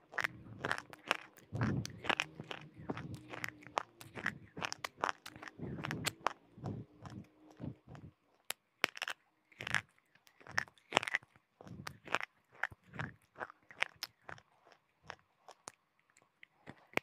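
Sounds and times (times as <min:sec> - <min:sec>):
pencil being chewed crunching: 0:00.0 - 0:17.0.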